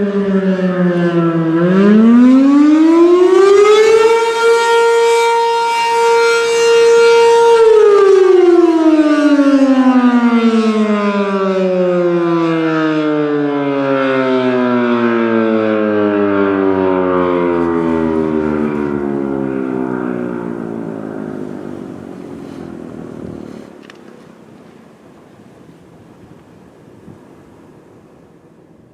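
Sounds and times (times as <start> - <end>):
warning siren winding down: 0.0 - 23.7.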